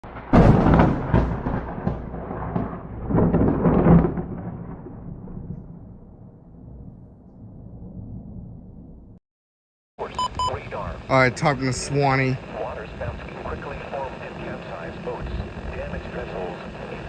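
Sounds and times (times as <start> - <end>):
thunder rumbling: 0.0 - 9.2, 12.3 - 17.0.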